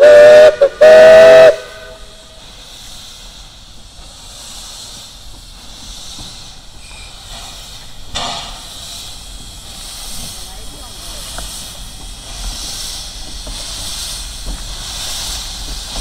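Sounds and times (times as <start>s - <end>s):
gush of steam: 0.0s - 16.0s
steam locomotive hissing: 0.0s - 16.0s.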